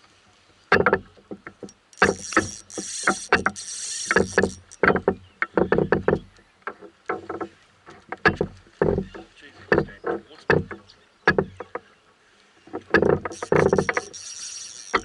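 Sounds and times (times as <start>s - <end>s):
knocks and clatter in a canoe: 0.0s - 15.0s.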